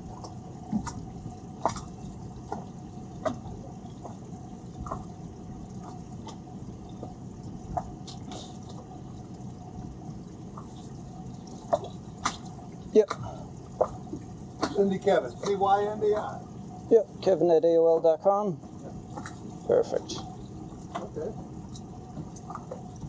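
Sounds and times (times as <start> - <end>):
small waves lapping against boats: 0.0 - 23.0
water dripping: 0.0 - 23.0.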